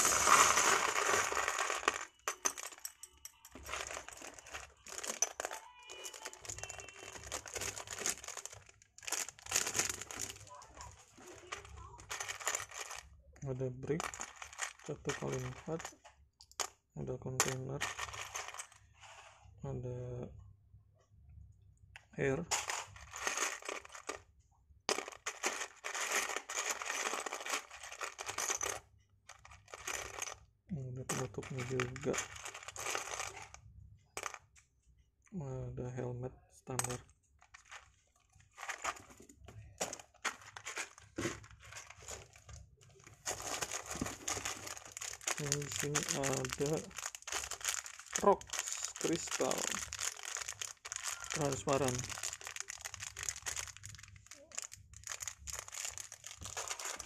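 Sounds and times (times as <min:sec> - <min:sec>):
plastic bags crinkling: 0:00.0 - 0:02.9, 0:03.5 - 0:13.1, 0:13.7 - 0:16.0, 0:17.5 - 0:18.8, 0:22.5 - 0:24.2, 0:24.9 - 0:30.4, 0:31.2 - 0:33.6, 0:36.9 - 0:57.0
plastic pieces clicking and rattling: 0:00.0 - 0:13.2, 0:13.8 - 0:16.8, 0:17.4 - 0:18.8, 0:22.5 - 0:24.3, 0:24.9 - 0:30.4, 0:31.1 - 0:33.6, 0:34.2 - 0:34.4, 0:36.8 - 0:57.0
plastic bricks clattering in a tub: 0:00.0 - 0:18.8, 0:22.5 - 0:24.3, 0:24.9 - 0:30.4, 0:31.0 - 0:33.6, 0:34.2 - 0:34.4, 0:36.8 - 0:57.0.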